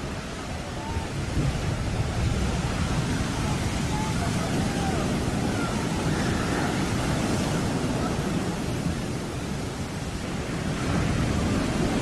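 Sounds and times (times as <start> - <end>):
sea waves breaking: 0.0 - 12.0
wind buffeting microphone: 0.0 - 12.0.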